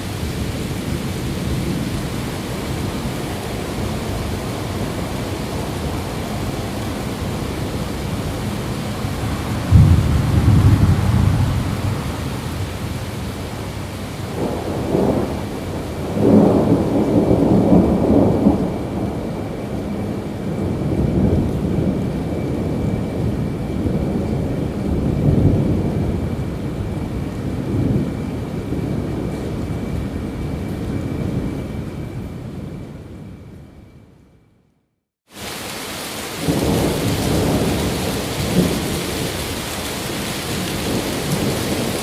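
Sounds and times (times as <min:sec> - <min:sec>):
steady rain: 0:00.0 - 0:33.6, 0:35.3 - 0:42.0
rolling thunder: 0:00.0 - 0:33.9, 0:36.1 - 0:42.0.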